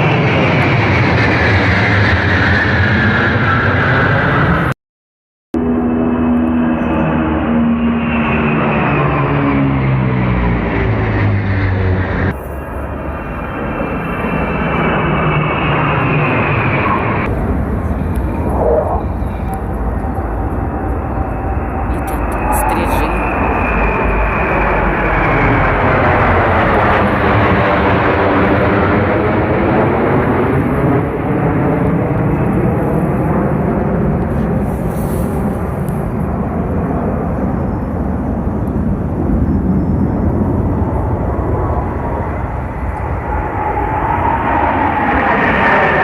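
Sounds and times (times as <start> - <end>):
military aircraft passing overhead: 0.0 - 4.7, 5.6 - 46.0.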